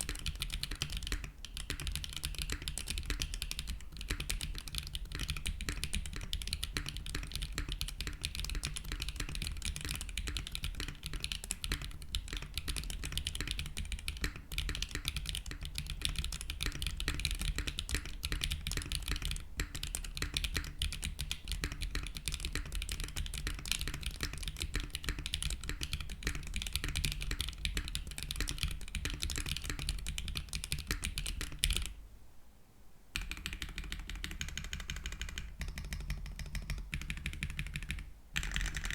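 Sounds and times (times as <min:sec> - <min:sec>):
fast high-pitched keyboard typing: 0:00.0 - 0:32.0, 0:33.2 - 0:38.9.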